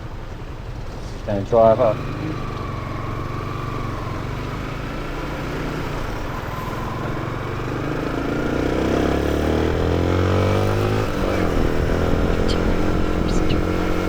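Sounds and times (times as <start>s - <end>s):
small motorcycle engine: 0.0s - 14.0s.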